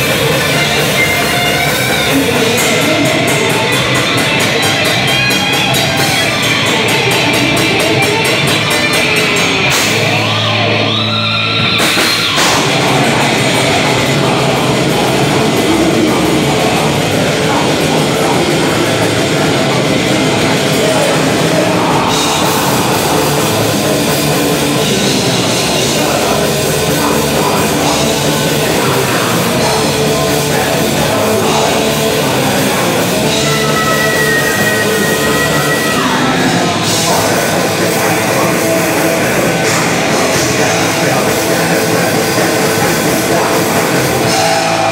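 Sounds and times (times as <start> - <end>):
bass guitar: 0.0 - 44.9
distorted electric guitars: 0.0 - 44.9
drum kit: 0.0 - 44.9
person singing: 0.0 - 44.9.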